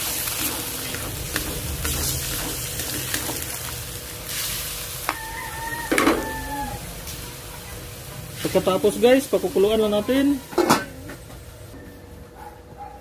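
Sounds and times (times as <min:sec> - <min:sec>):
beef sizzling in a wok: 0:00.0 - 0:11.8.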